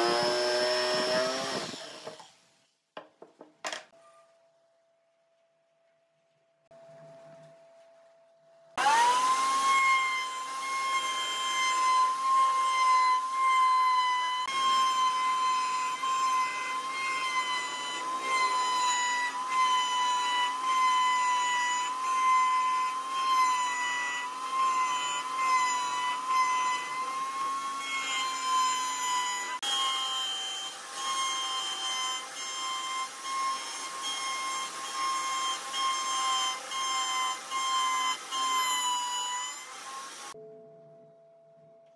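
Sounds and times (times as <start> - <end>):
wood router whining: 0.0 - 2.4, 8.8 - 40.4.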